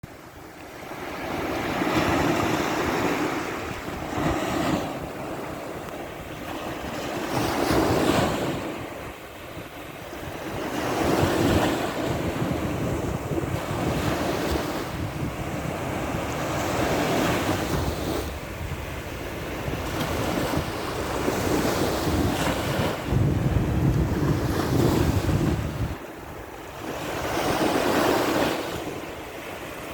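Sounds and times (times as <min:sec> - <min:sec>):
waves breaking: 0:00.2 - 0:29.9
wind buffeting microphone: 0:00.4 - 0:29.8.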